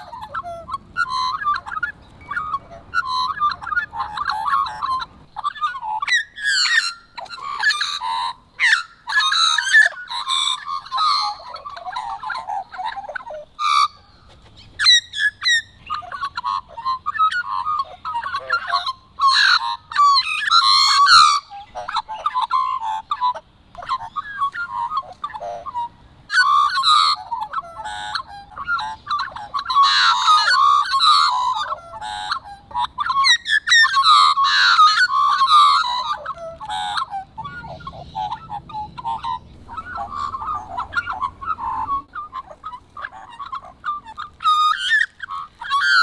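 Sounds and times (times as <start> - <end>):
magpies warbling: 0.0 - 46.0.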